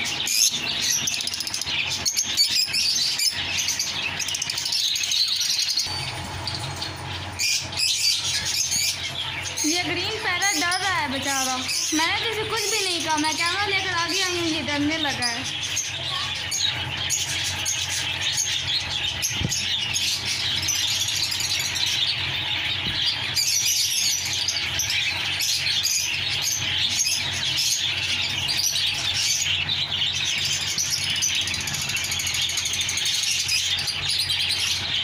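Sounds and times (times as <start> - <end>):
parrots and birds chirping screeching: 0.0 - 35.0.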